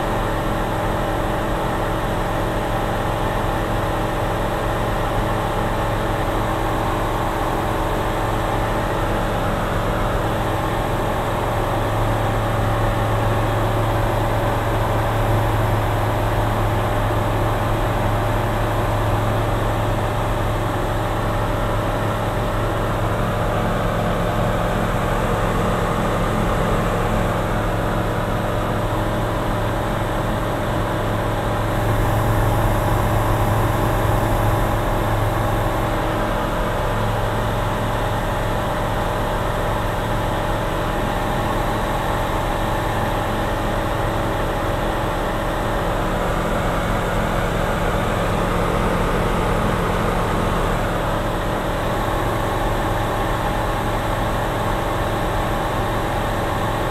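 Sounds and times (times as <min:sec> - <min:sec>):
light aircraft engine droning: 0:07.1 - 0:56.9.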